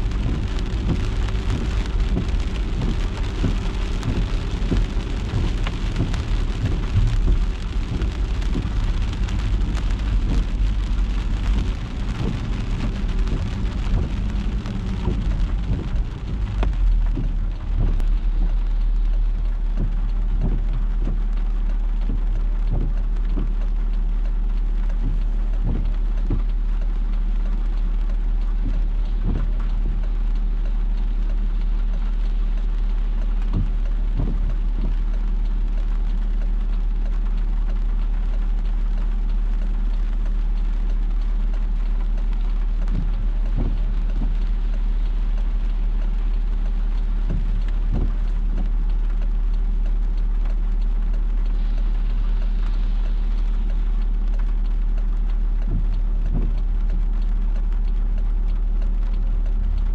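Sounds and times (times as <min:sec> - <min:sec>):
car driving rumble: 0:00.0 - 0:59.9
raindrops striking a car: 0:00.0 - 0:59.9.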